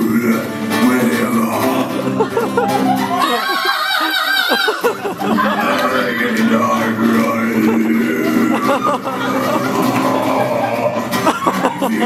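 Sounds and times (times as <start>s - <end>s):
man singing: 0.0s - 3.5s, 4.8s - 12.0s
strummed acoustic guitar: 0.0s - 3.8s, 4.4s - 12.0s.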